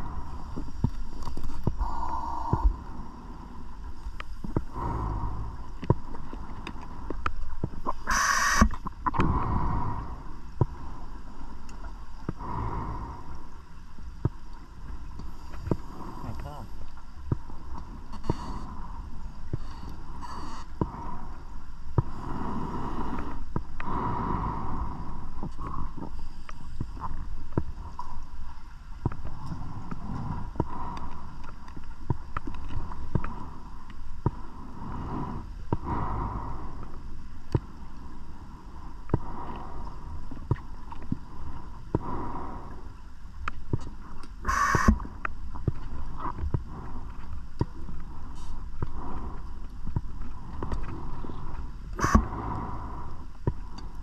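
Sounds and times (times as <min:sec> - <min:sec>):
steady underwater rumble: 0:00.0 - 0:54.0.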